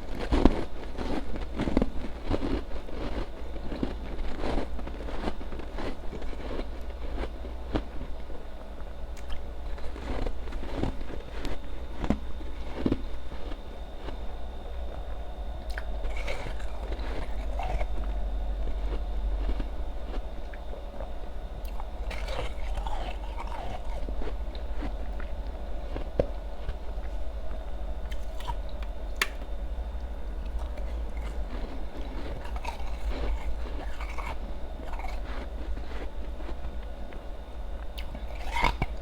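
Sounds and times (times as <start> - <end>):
person chewing ice: 0.0 - 39.0.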